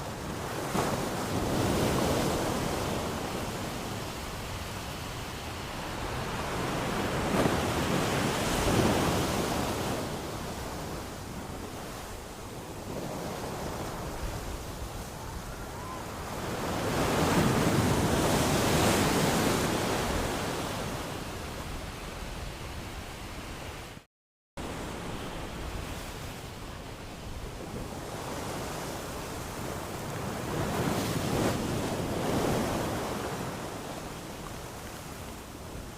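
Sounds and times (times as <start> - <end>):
ocean waves washing in: 0.0 - 35.9.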